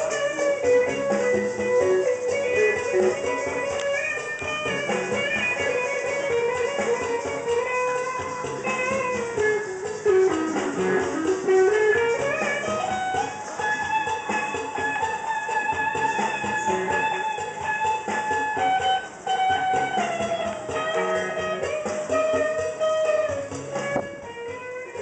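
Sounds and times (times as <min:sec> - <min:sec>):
guitar melody: 0:00.0 - 0:25.0.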